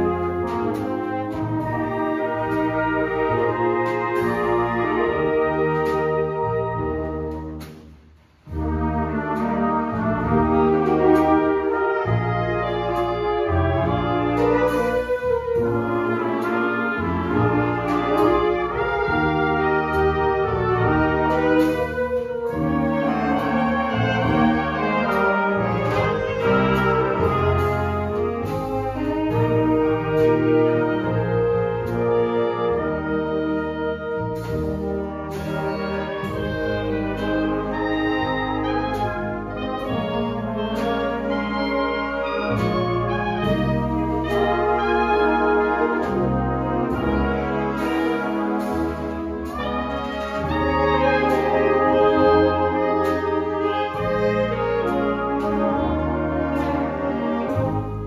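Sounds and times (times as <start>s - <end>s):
dixieland band playing blues: 0.0s - 58.0s.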